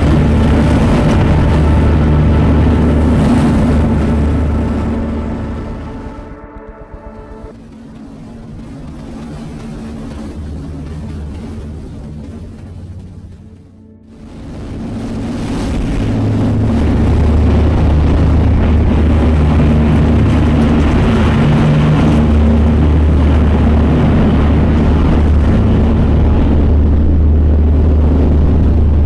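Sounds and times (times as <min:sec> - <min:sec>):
boat engine drone: 0:00.0 - 0:29.0
wind and water rushing: 0:00.0 - 0:29.0.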